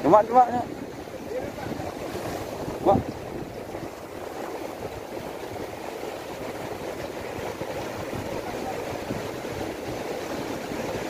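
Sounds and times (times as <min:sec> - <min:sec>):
wind buffeting microphone: 0:00.0 - 0:11.0
surf breaking against rocks: 0:00.3 - 0:11.0.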